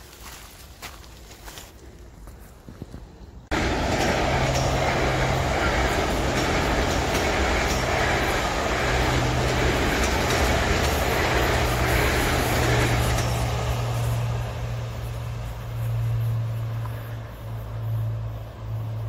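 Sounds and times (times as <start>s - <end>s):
train wheels rumbling on rail: 2.5s - 19.0s.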